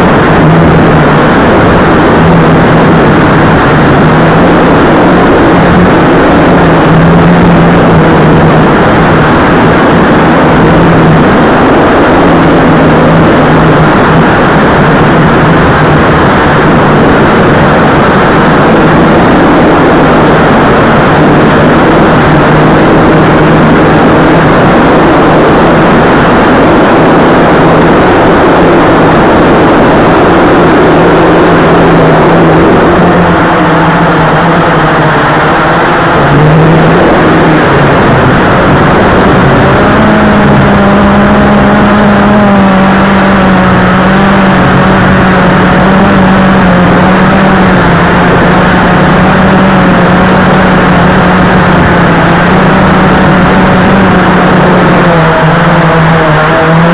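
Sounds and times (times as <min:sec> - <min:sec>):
loud rushing noise: 0:00.0 - 0:56.9
quadcopter motors humming: 0:00.0 - 0:56.9.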